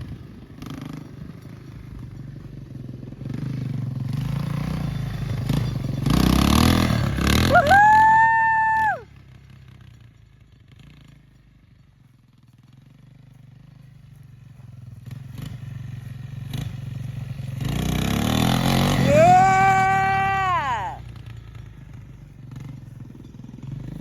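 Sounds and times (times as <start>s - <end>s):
three-wheeler engine approaching: 0.0s - 24.0s.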